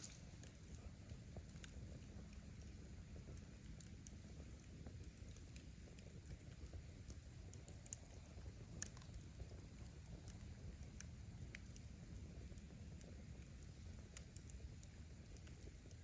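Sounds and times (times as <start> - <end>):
firewood crackling and popping: 0.0 - 16.0
low rumble of flame: 0.0 - 16.0.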